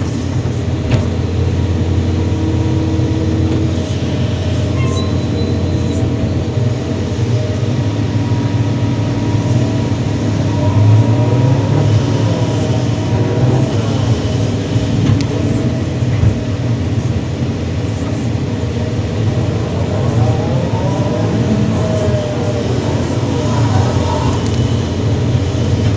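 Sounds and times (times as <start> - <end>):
excavator diesel engine running: 0.0 - 25.9
hydraulic whine: 0.0 - 25.9.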